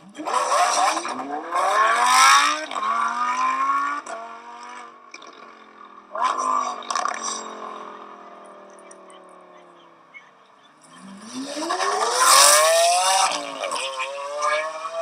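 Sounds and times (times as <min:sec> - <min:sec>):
car engine accelerating through gears: 0:00.0 - 0:15.0.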